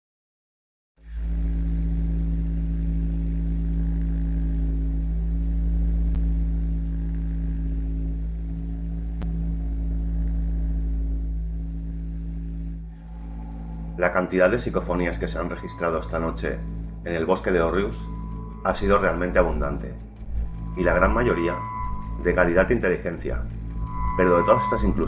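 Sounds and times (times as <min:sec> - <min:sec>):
deep rumbling drone: 0:01.0 - 0:25.0
low hum: 0:01.0 - 0:25.0.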